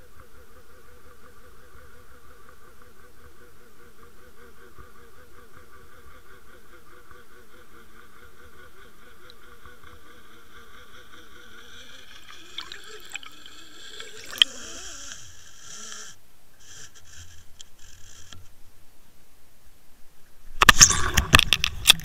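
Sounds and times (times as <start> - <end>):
underwater wavering hum: 0.0 - 18.6.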